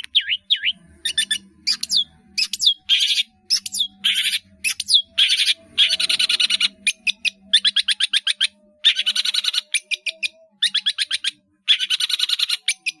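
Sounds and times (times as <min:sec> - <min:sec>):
bird chattering song: 0:00.0 - 0:13.0.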